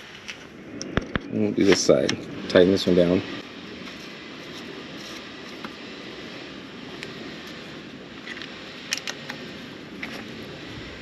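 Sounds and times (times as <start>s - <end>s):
background rumble: 0.0s - 11.0s.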